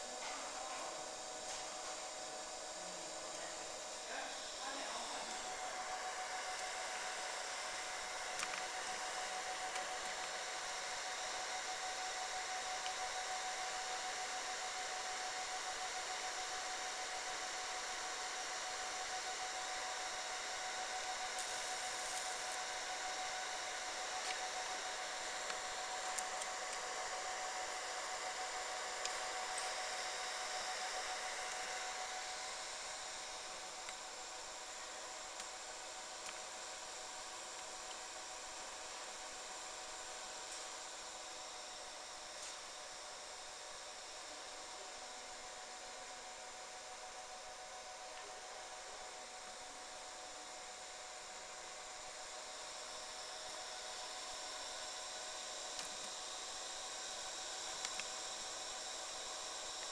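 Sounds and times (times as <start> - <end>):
cooling fans whirring hum: 0.0 - 59.9.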